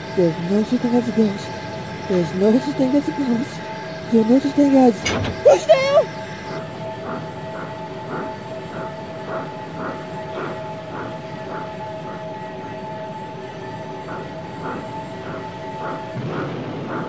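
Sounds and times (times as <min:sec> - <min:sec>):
steady hum with held tones: 0:00.0 - 0:17.0
steam locomotive chuffing: 0:00.0 - 0:17.0.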